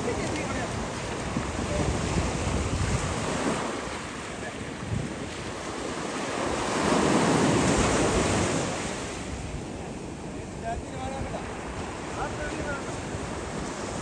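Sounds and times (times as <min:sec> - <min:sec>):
sea waves breaking: 0:00.0 - 0:14.0
wind buffeting microphone: 0:00.0 - 0:14.0.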